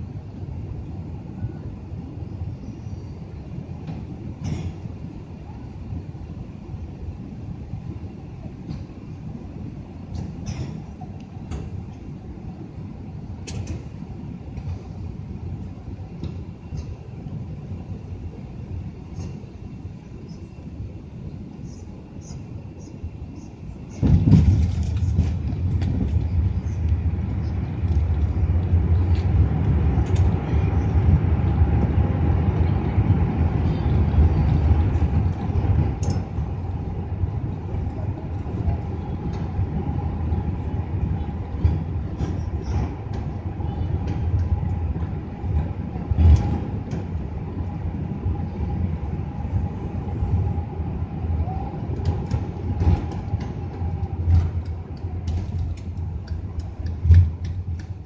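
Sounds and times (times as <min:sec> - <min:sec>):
airplane landing rumble: 0:00.0 - 0:58.0
jet engine whine: 0:00.0 - 0:58.0.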